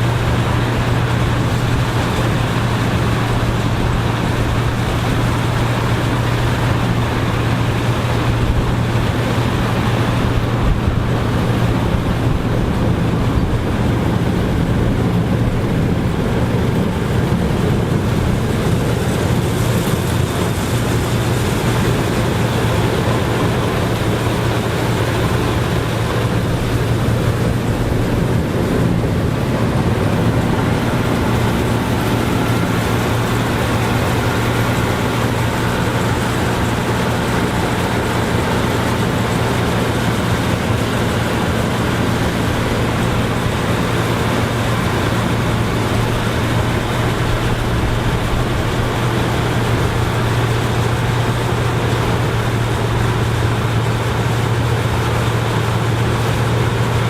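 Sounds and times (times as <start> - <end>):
machinery engine droning: 0.0 - 57.0.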